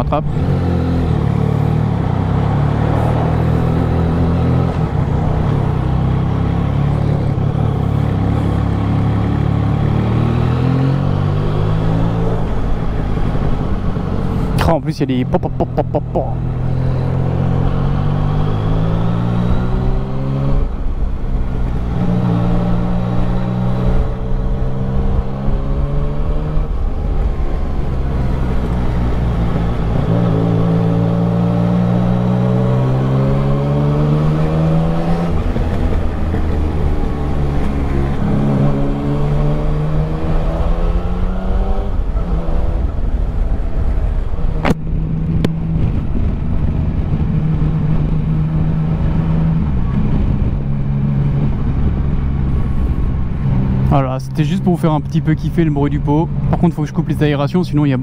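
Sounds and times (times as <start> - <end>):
motorcycle engine accelerating: 0.0 - 57.2.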